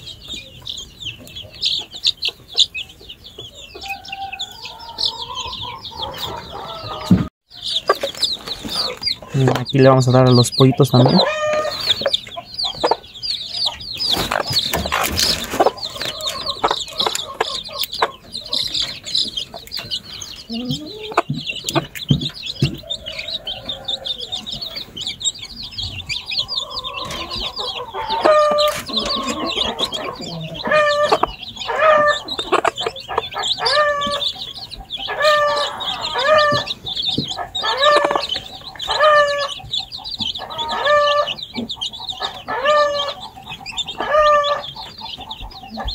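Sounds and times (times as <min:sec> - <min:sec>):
chicken calling: 0:00.0 - 0:45.9
chicks peeping: 0:00.0 - 0:45.9.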